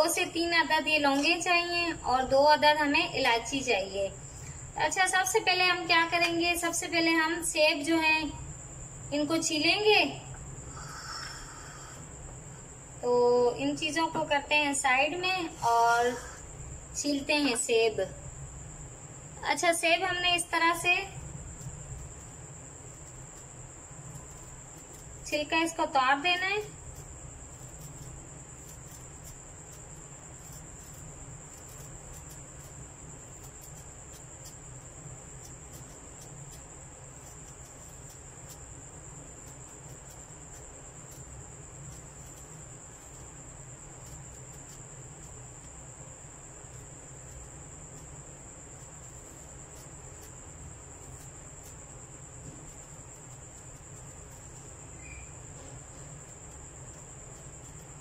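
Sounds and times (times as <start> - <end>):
crickets trilling: 0.0 - 58.0
low background hum: 0.0 - 58.0.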